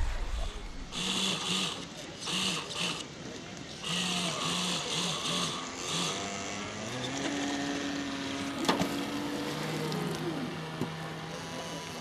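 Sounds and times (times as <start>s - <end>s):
model boat motor whine: 0.6s - 12.0s.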